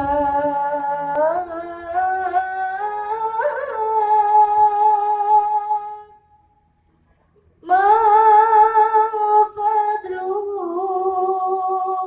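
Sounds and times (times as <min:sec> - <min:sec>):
woman singing unaccompanied: 0:00.0 - 0:06.2, 0:07.7 - 0:12.0.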